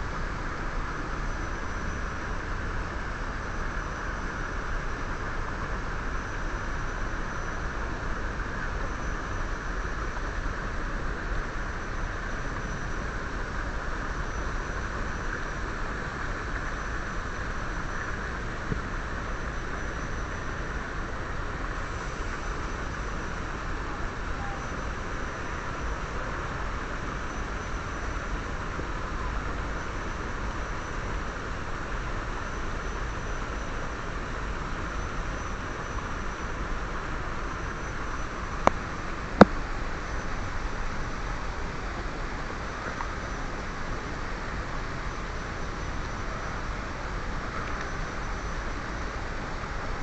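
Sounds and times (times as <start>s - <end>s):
faint high whine: 0.0s - 50.0s.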